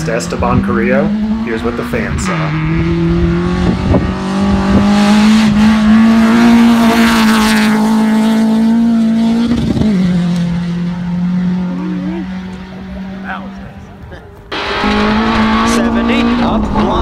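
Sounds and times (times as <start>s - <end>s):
rally car engine revving high: 0.0s - 17.0s.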